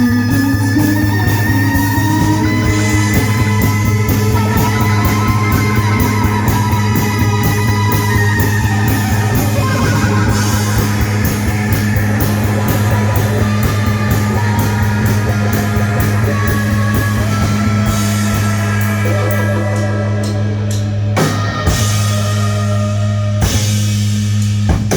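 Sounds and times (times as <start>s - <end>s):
drums ticking: 0.0s - 22.8s
electric guitar: 0.0s - 24.9s
live rock band playing: 0.0s - 24.9s.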